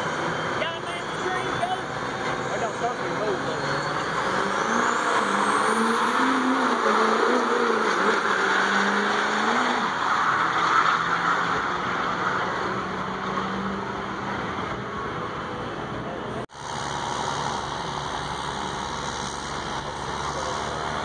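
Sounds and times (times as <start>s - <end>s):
diesel truck accelerating: 0.0s - 21.0s.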